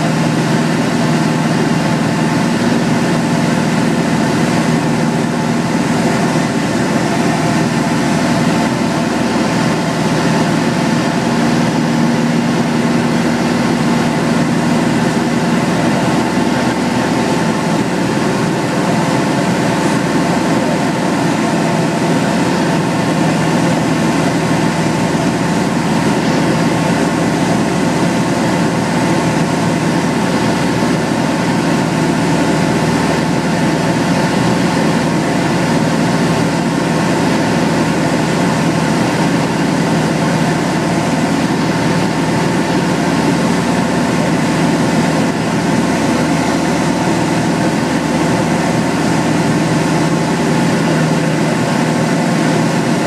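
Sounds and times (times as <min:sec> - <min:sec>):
light aircraft engine drone: 0:00.0 - 0:53.0
steady hum: 0:00.0 - 0:53.0.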